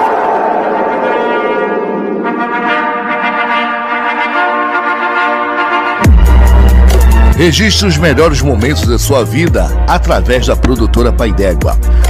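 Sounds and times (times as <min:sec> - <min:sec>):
brass instruments playing chords: 0:00.1 - 0:12.0.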